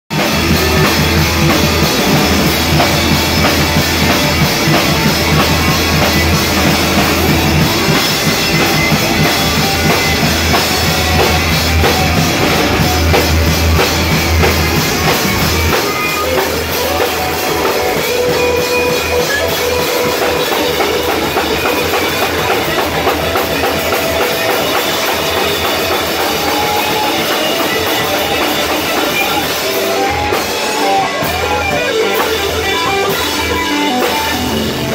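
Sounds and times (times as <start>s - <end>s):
bass guitar: 0.1s - 34.9s
drum kit: 0.1s - 34.9s
electric guitars: 0.1s - 34.9s.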